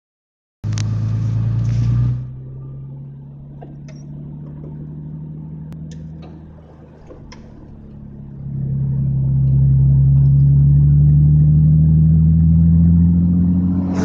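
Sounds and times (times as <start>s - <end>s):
car engine running: 0.6s - 14.0s.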